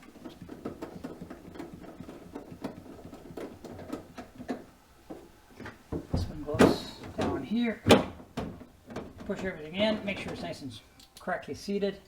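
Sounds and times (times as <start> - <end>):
parts clicking and rustling by hand: 0.0 - 11.3.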